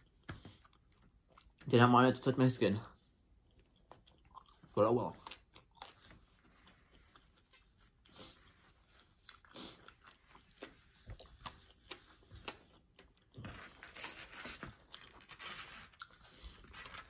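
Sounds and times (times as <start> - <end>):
chewing and crunching pizza: 0.0 - 17.0.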